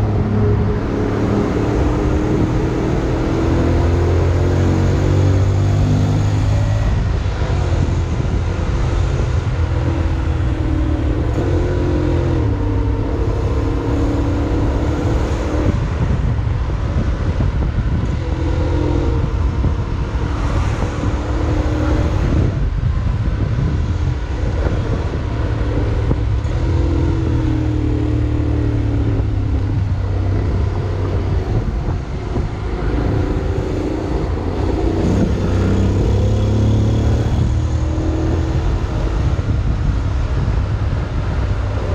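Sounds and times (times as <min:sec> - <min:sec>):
wind and road noise: 0:00.0 - 0:41.9.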